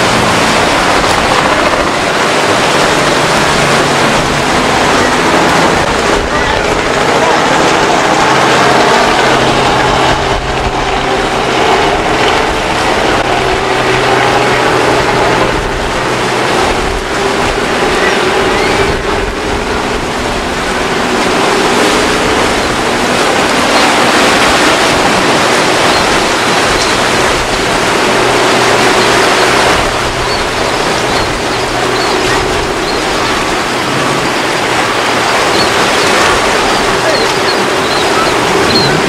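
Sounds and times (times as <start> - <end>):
choppy surf washing: 0.0 - 39.0
outboard motors humming: 0.0 - 39.0.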